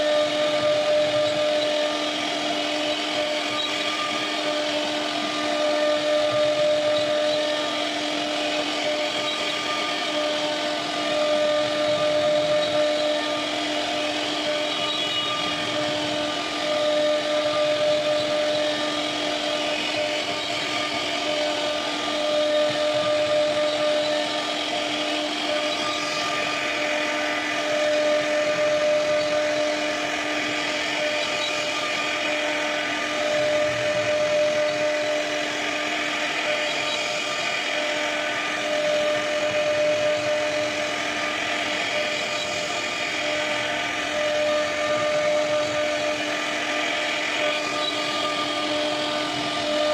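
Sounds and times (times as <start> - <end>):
router spindle whining: 0.0 - 49.9.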